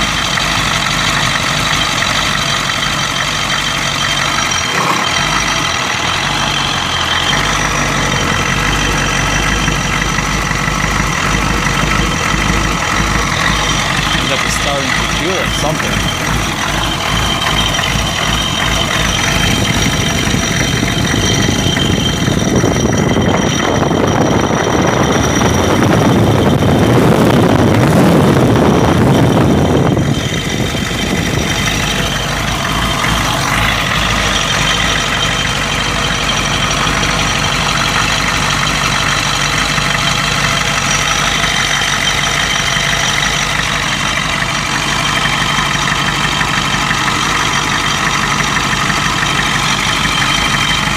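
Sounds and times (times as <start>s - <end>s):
diesel engine idling with knock: 0.0s - 50.9s.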